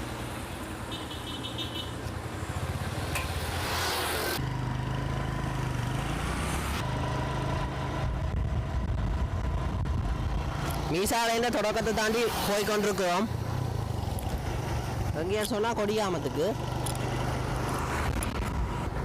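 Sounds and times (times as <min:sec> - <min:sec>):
motorcycle engine humming: 0:00.0 - 0:19.0
road and wind rush: 0:00.0 - 0:19.0.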